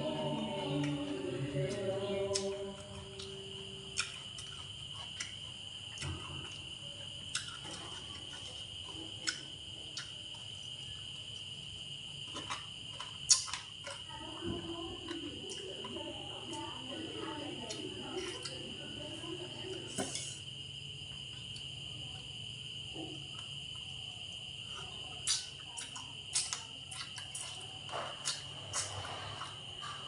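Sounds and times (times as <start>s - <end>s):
cricket trill: 0.0s - 30.0s.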